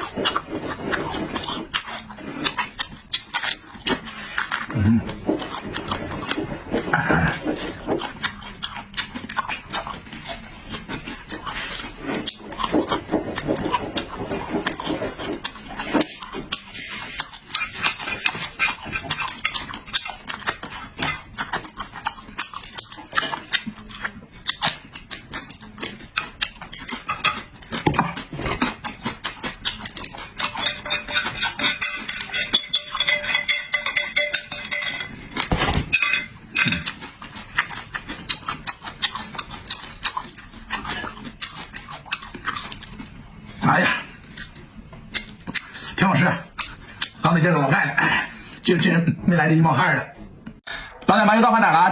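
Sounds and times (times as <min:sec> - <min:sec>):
person chewing and slurping: 0:00.0 - 0:47.2.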